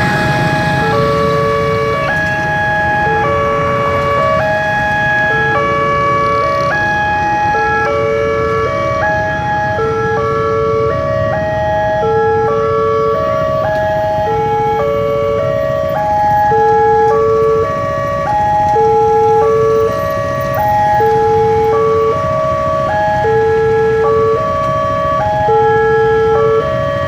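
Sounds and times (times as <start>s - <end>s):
electronic crossing alarm tune: 0.0s - 27.0s
road traffic rumble: 0.0s - 27.0s.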